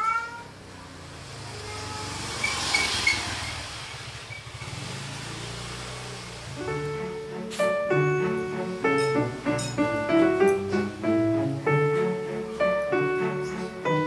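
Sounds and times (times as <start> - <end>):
vehicle engine hum passing: 0.6 - 14.0.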